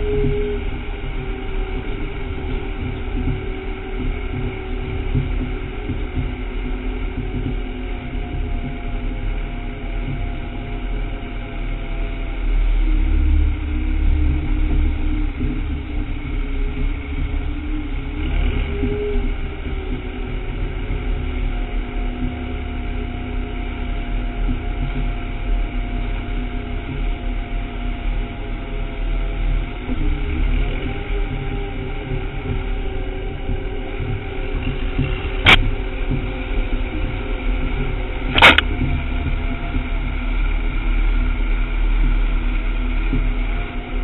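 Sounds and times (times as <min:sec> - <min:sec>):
low rumble from bumpy ground: 0:00.0 - 0:44.0
tractor engine running under load: 0:00.0 - 0:44.0.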